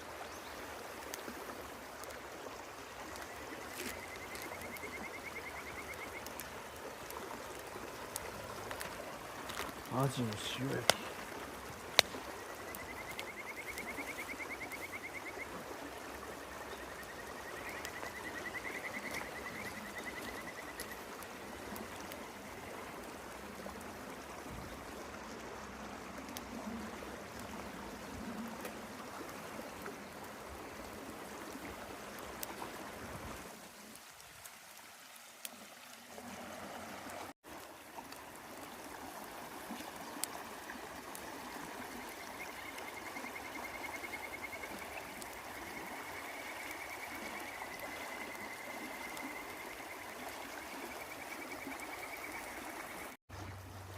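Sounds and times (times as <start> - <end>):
river water flowing: 0.0 - 53.9.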